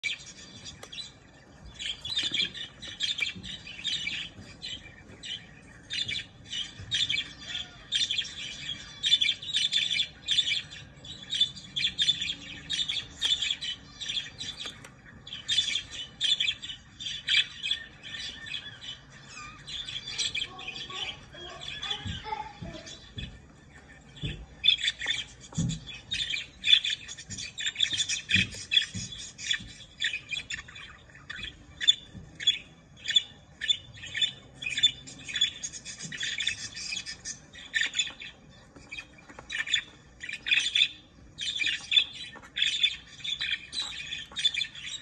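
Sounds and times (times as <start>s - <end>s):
budgerigar chirping and squawking: 0.0s - 45.0s.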